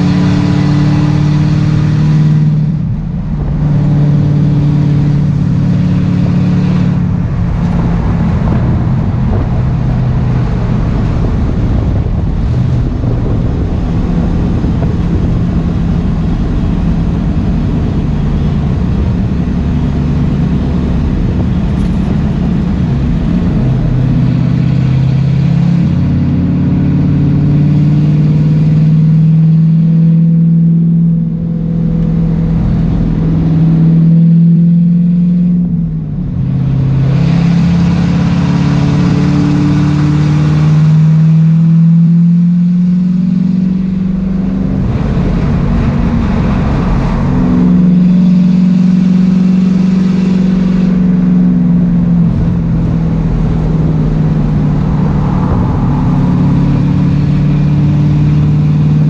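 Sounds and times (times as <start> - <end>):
race car engine from inside: 0.0 - 59.0.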